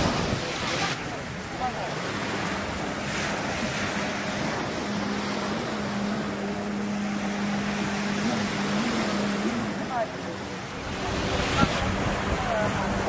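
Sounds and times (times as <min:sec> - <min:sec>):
low engine drone: 0:00.0 - 0:13.0
surf washing on beach: 0:00.0 - 0:13.0.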